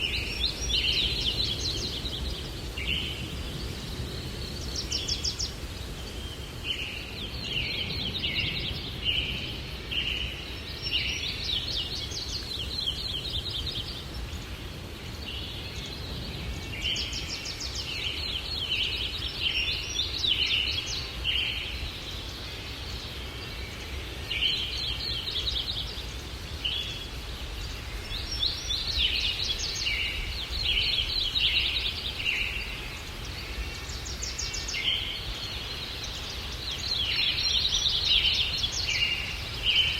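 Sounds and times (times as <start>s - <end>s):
low rush of breeze: 0.0s - 39.9s
small songbirds chirping: 0.0s - 39.9s.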